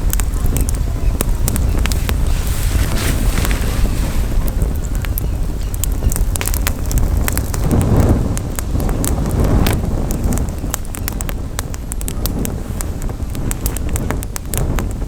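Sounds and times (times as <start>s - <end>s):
campfire crackling: 0.0s - 15.0s
wind on microphone: 0.0s - 15.0s.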